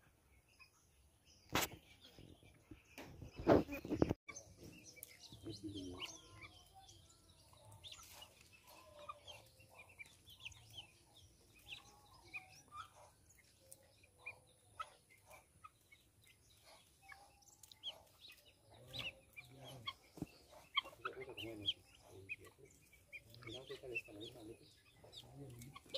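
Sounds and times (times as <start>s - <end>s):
guinea fowl chicks peeping: 0.0s - 25.9s.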